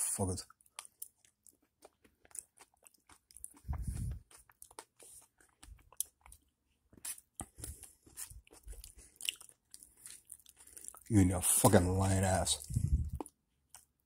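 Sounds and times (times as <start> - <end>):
person chewing chicken: 0.5 - 11.2, 12.0 - 14.0.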